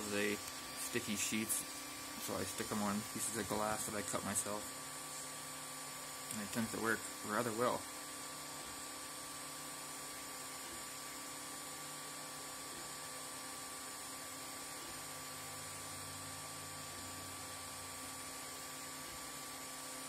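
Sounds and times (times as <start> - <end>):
stepper motors humming: 0.0 - 19.7
cooling fan whirring: 0.0 - 20.0.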